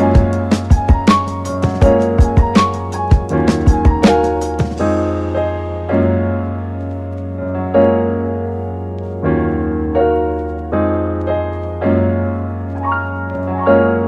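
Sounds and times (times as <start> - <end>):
slow gentle piano chords: 0.0 - 14.0.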